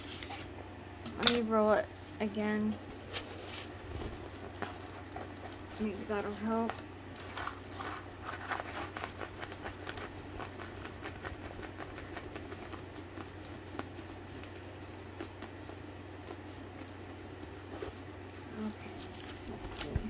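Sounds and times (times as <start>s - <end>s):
low steady hum: 0.0s - 20.0s
plastic film crackling: 1.9s - 20.0s.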